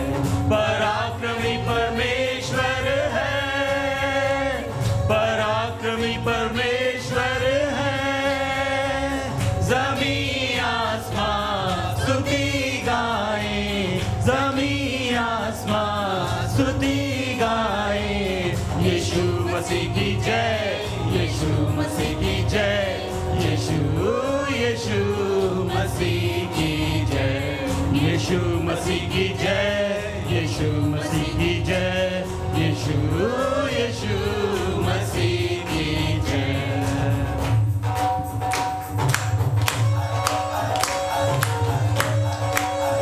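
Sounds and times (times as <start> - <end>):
choir singing worship song: 0.0 - 37.6
instrumental accompaniment with beat: 0.0 - 43.0.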